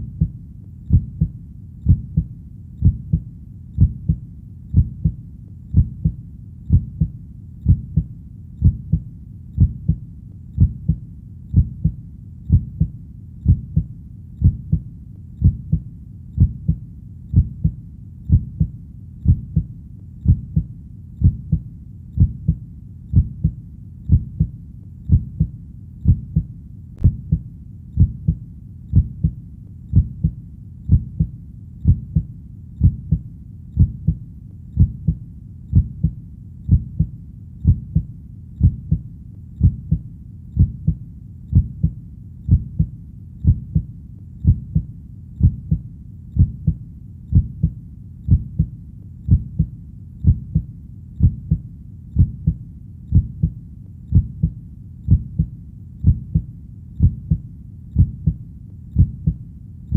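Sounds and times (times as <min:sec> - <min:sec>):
heartbeat thumps: 0:00.0 - 0:10.0, 0:10.6 - 0:59.9
faint low rumble: 0:00.0 - 0:59.9.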